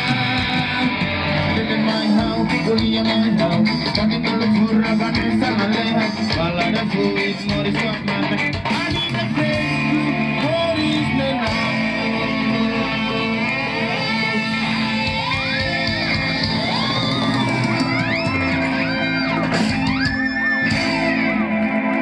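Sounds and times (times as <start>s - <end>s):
gliding lead guitar melody: 0.0s - 22.0s
guitar chords: 0.0s - 22.0s.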